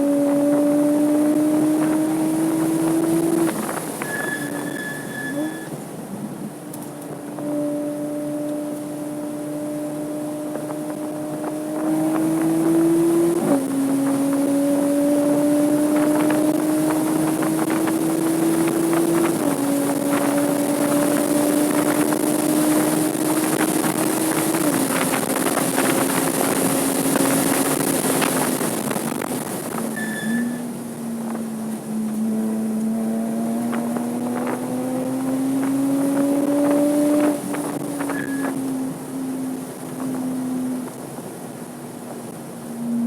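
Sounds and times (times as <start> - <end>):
car engine under load: 0.0 - 43.0
wind and road noise: 0.0 - 43.0.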